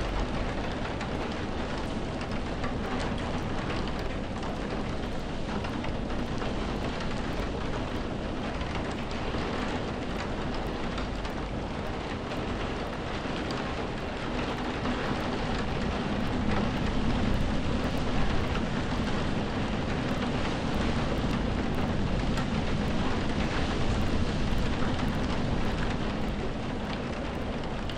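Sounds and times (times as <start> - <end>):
heavy rainfall: 0.0 - 27.9.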